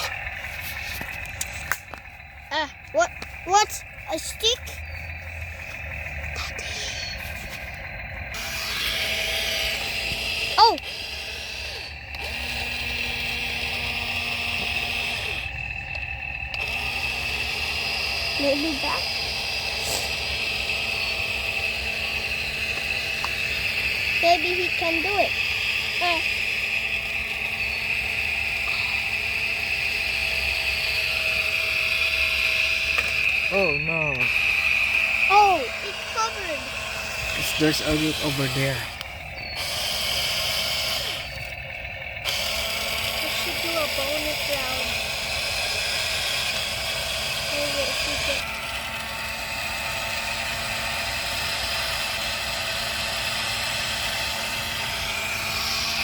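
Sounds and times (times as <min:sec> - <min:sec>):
toy excavator motors whirring: 0:00.0 - 0:56.0.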